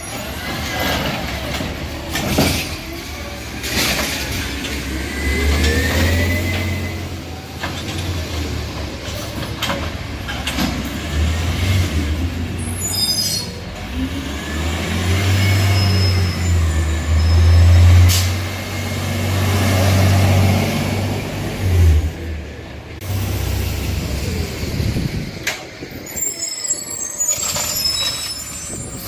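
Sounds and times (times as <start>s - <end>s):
diesel engine revving: 0.0s - 25.5s.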